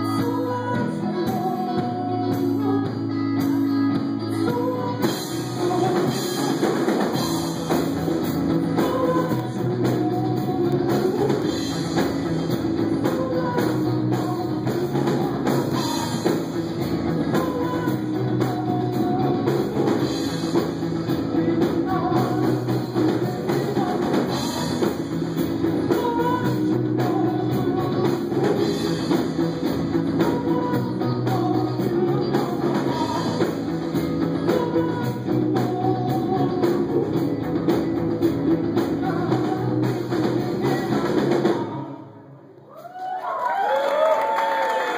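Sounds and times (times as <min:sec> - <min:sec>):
drum kit beat: 0:00.0 - 0:41.8
band playing live: 0:00.0 - 0:42.2
person singing: 0:00.0 - 0:42.5.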